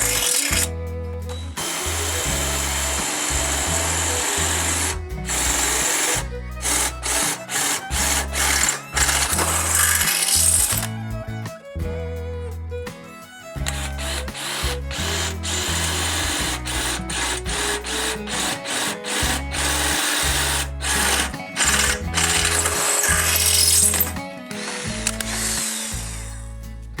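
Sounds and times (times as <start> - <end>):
power tool running: 0.0 - 0.7, 1.3 - 11.0, 13.5 - 26.5
background music with bass line: 0.0 - 27.0.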